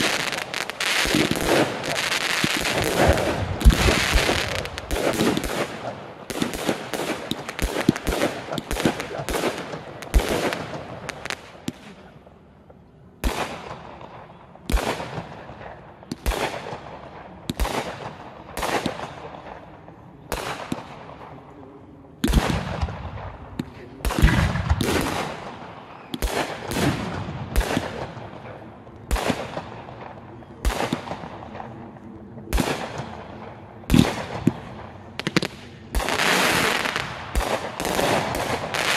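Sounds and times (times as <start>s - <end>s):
fireworks bursting with echoes: 0.0s - 38.9s.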